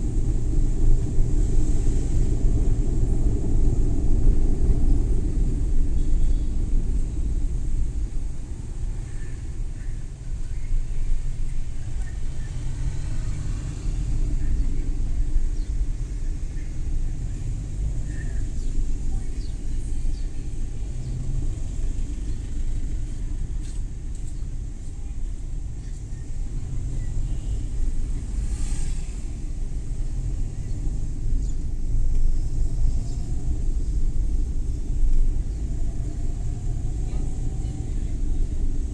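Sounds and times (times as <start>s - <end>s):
van engine and tyres rumbling: 0.0s - 38.9s.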